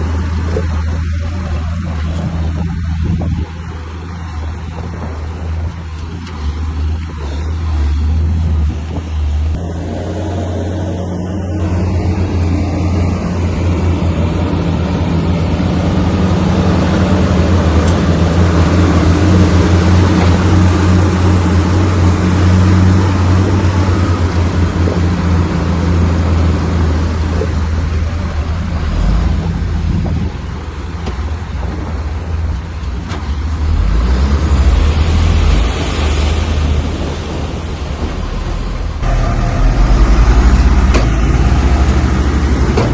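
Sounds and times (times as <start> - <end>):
bulldozer diesel engine: 0.0 - 42.9.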